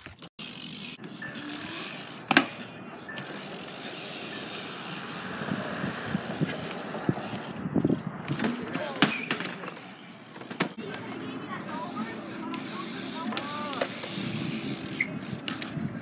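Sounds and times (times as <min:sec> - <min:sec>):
bike tyres rolling on concrete: 0:00.0 - 0:16.0.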